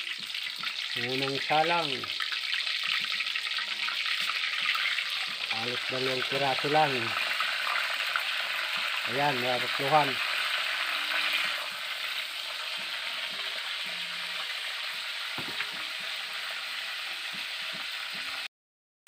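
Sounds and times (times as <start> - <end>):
fish sizzling in hot oil: 0.0 - 18.5.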